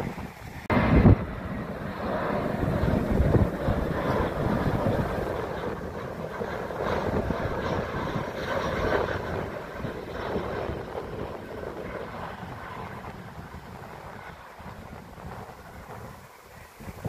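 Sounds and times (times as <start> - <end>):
airliner jet engines: 0.0 - 17.0.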